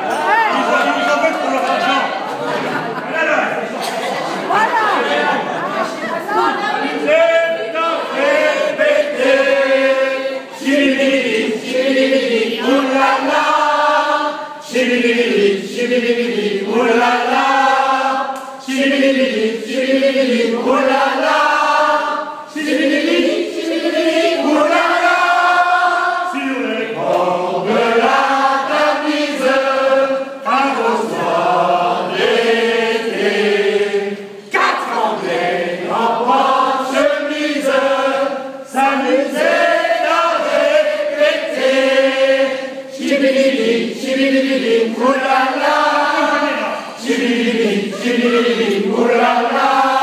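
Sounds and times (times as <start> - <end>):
men singing in chorus: 8.0 - 50.0.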